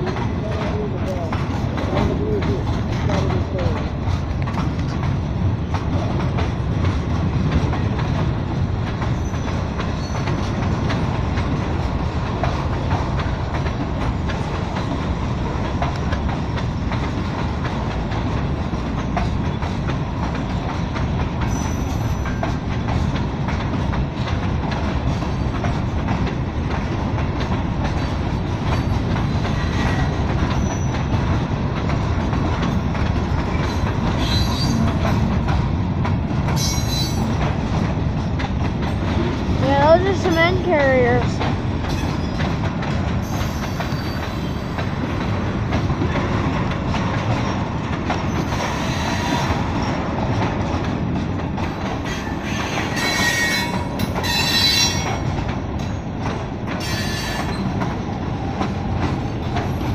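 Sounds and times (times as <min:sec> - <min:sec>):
train cars rumbling past: 0:00.0 - 0:59.9
wheels clacking over rail joints: 0:00.0 - 0:59.9.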